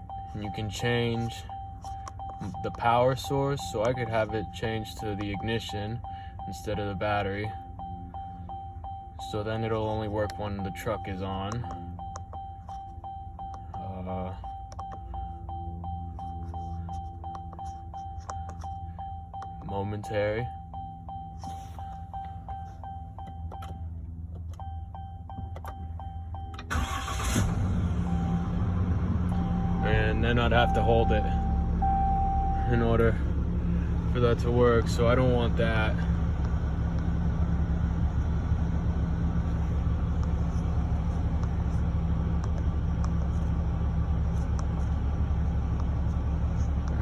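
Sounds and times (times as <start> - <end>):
low steady hum: 0.0 - 47.0
regular ticking: 0.0 - 47.0
truck engine idling: 0.0 - 47.0.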